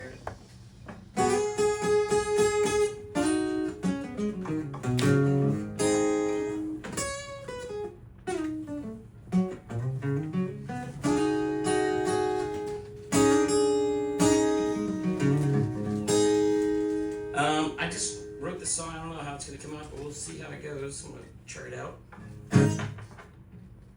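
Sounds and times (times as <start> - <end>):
acoustic guitar strumming chords: 1.0 - 19.7, 22.2 - 23.2.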